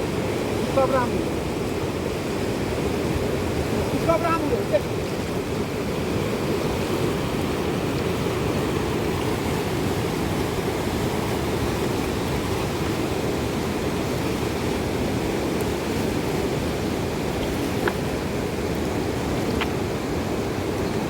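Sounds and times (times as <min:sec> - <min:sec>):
fast river rushing: 0:00.0 - 0:21.0.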